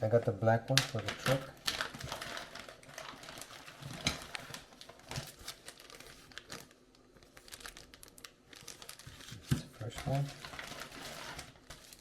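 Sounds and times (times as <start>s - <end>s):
plastic packaging crinkling: 0.7s - 12.0s.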